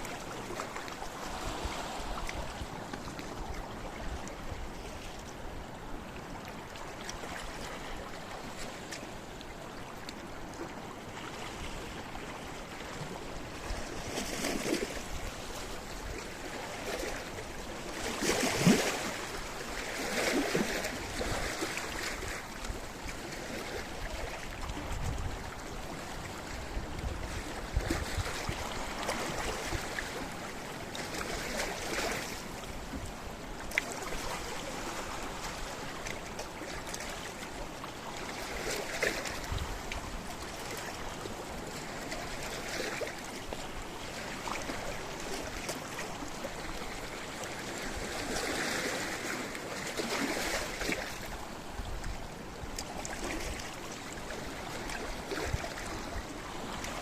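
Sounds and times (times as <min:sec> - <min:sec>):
waves washing on rocky shore: 0:00.0 - 0:04.9, 0:11.1 - 0:57.0
waves breaking: 0:00.0 - 0:57.0.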